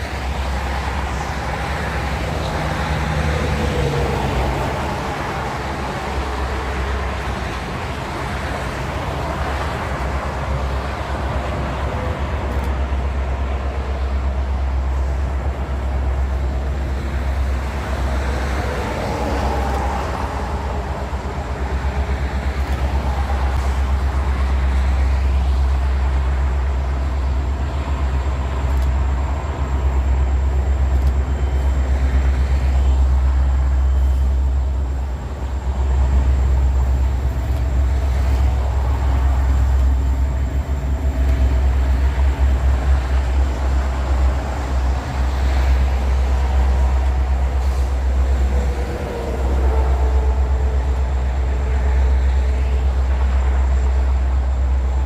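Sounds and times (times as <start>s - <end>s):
train rolling past: 0.0s - 55.0s.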